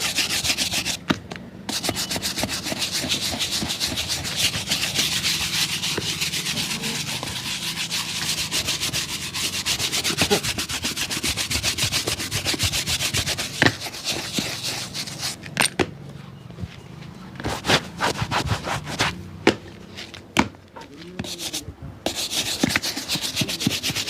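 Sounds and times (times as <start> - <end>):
rubbing strokes on a shoe: 0.0 - 1.0, 1.7 - 15.4, 17.4 - 19.2, 21.0 - 24.0.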